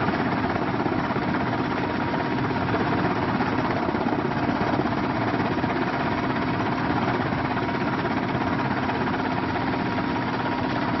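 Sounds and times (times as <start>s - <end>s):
helicopter engine drone: 0.0s - 11.0s
rotor flutter: 0.0s - 11.0s.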